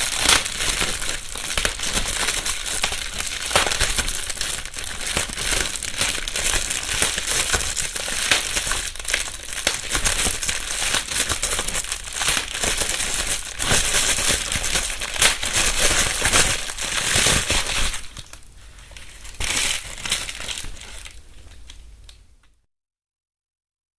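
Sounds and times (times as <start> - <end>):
bubble wrap bubbles popping: 0.0 - 22.2
bubble wrap crinkling: 0.0 - 22.4.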